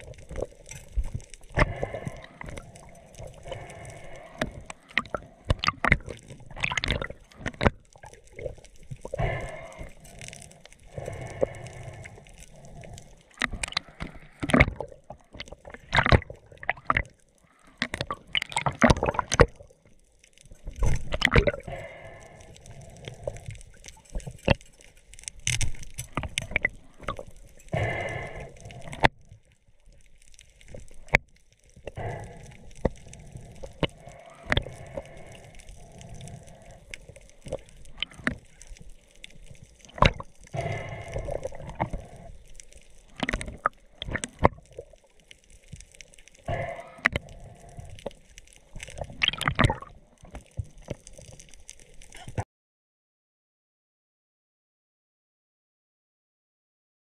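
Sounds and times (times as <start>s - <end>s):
underwater gurgling and sloshing: 0.0s - 52.4s.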